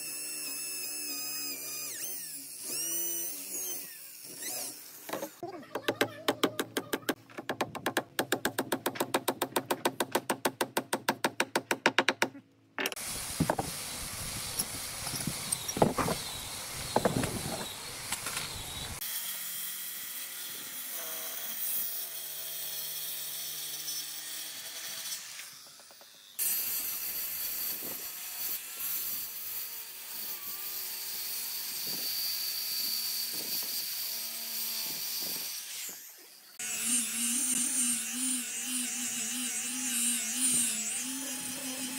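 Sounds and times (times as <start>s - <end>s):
circular saw cutting wood: 0.0s - 6.0s, 12.9s - 41.9s.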